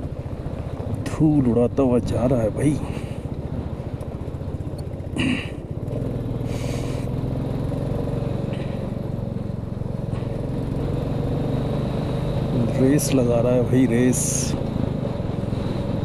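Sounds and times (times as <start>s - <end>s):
gravel road noise: 0.0s - 16.0s
motorcycle engine running: 0.0s - 16.0s.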